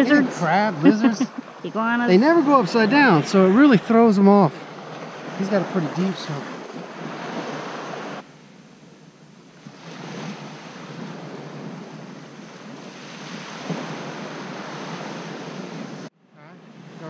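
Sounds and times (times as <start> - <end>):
waves washing onto beach: 0.0 - 17.0
wind on microphone: 2.2 - 16.1.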